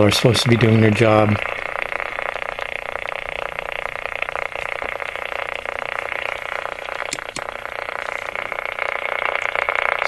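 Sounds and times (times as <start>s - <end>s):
fluttering radio static hiss: 0.0s - 10.0s.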